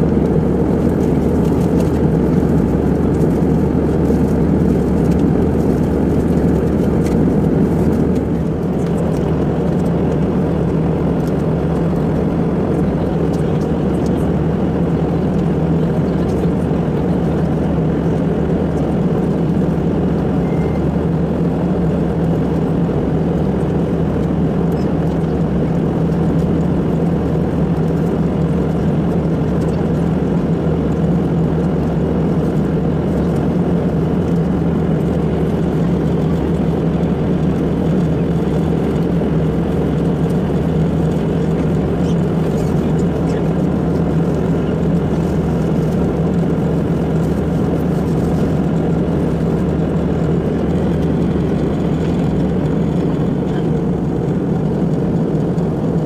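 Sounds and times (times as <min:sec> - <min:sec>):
jet cabin engine drone: 0:00.0 - 0:56.0.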